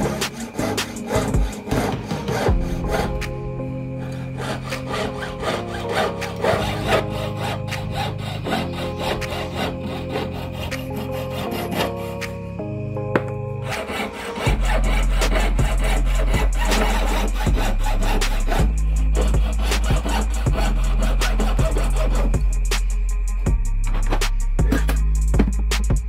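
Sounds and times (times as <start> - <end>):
saw blade cutting metal sheet: 0.0 - 3.4, 4.0 - 12.4, 13.6 - 22.9
background music: 0.0 - 26.0.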